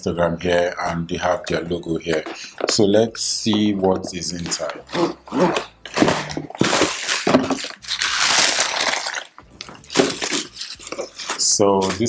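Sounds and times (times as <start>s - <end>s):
plastic wrapping and tissue crinkling: 1.1s - 12.0s.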